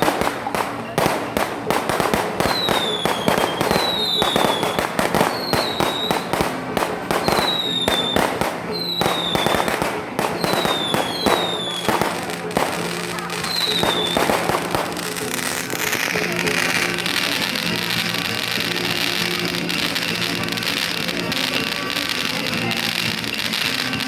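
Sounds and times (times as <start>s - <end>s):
fireworks cracks and bangs: 0.0s - 24.0s
fireworks falling whistles: 0.0s - 24.0s.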